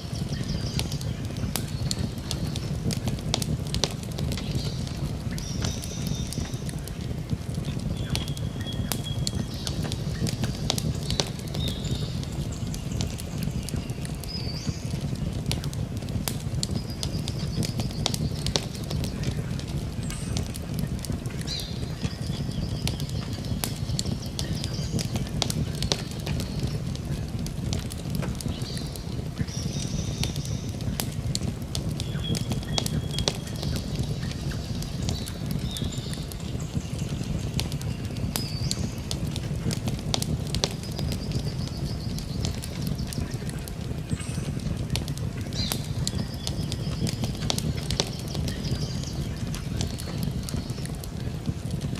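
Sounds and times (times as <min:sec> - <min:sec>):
campfire crackling and popping: 0:00.0 - 0:51.9
low rumble of burning fire: 0:00.0 - 0:51.9.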